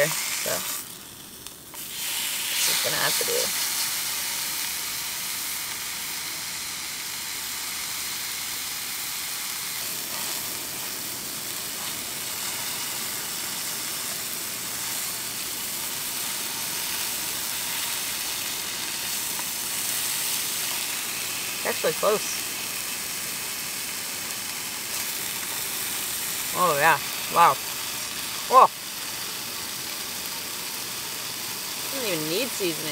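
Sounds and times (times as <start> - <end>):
steak sizzling in a frying pan: 0.0 - 32.9.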